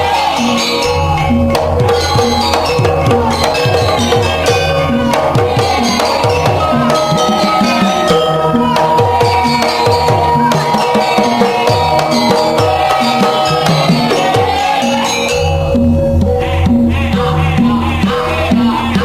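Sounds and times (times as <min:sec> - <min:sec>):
hand drums sliding in pitch: 0:00.0 - 0:19.0.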